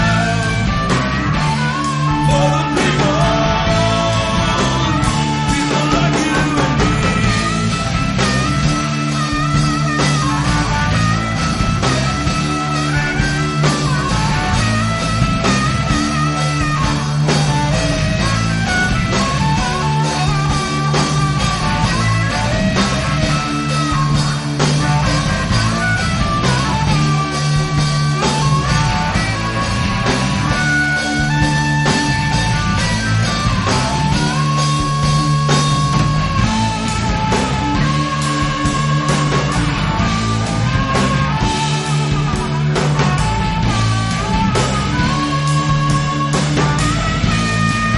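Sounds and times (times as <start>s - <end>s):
rock music: 0.0s - 47.9s.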